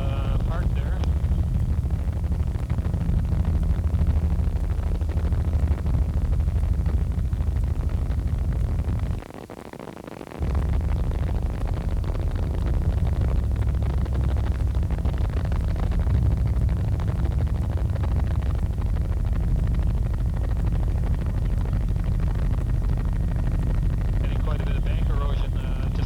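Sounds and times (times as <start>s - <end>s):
helicopter engine and rotor drone: 0.0s - 9.0s, 10.4s - 26.0s.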